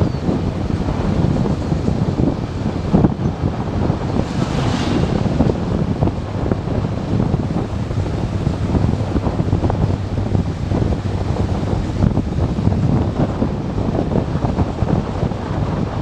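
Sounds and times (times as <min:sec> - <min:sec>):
motorcycle engine and road rumble: 0:00.0 - 0:16.0
wind buffeting microphone: 0:00.0 - 0:16.0.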